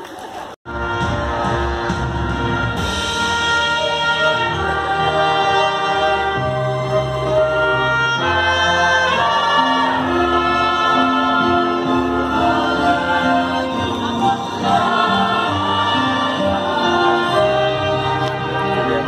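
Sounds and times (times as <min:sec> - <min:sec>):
choir singing: 0:00.7 - 0:19.0
violin ensemble: 0:00.7 - 0:19.0.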